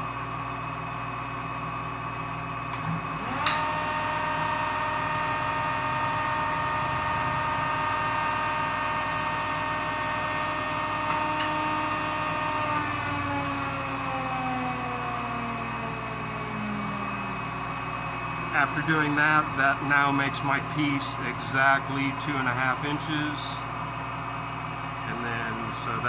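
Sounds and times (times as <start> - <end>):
jointer motor whining: 2.7 - 26.0.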